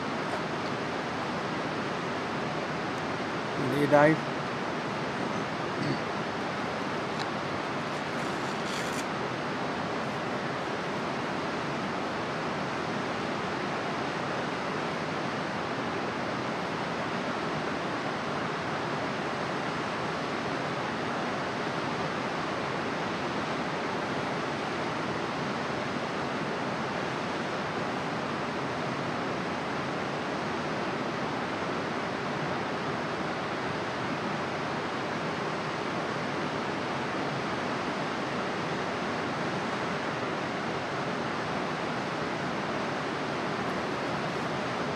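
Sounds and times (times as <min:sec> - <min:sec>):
running water rushing: 0:00.0 - 0:44.9.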